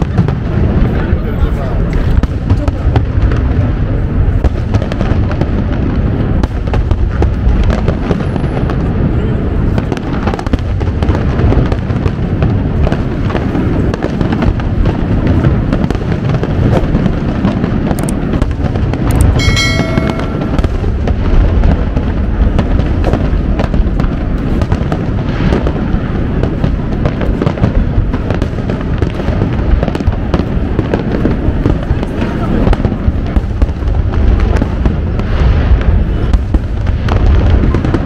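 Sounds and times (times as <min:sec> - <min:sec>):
fireworks booming and crackling: 0:00.0 - 0:38.0.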